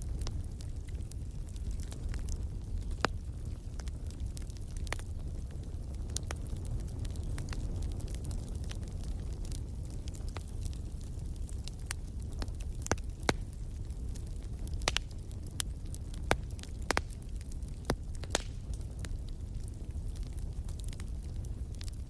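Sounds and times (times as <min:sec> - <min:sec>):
low rumble of flame: 0:00.0 - 0:22.0
wood crackling and popping: 0:00.0 - 0:22.0.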